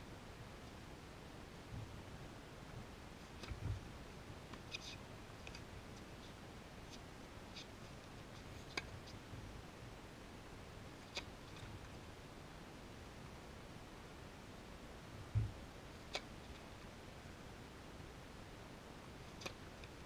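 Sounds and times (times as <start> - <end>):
faint low rumble: 0.0 - 20.0.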